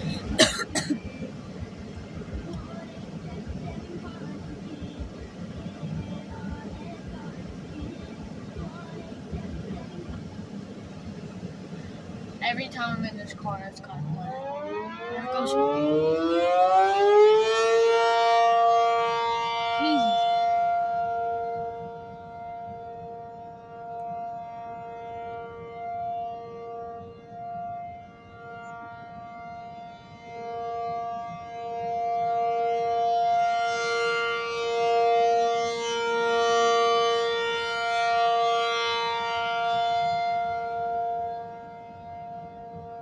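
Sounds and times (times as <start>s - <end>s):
outdoor warning siren: 0.0s - 43.0s.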